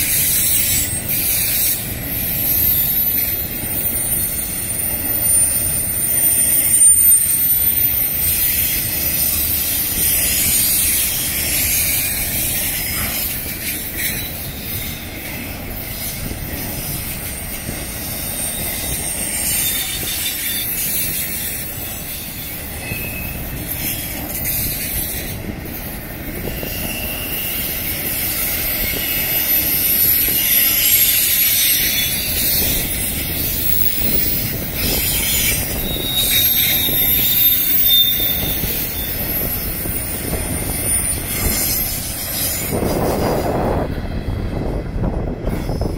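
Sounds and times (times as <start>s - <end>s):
high-pitched wheel squeal: 0.0s - 25.8s, 26.4s - 43.8s
train wheels rumbling on rails: 0.0s - 45.9s.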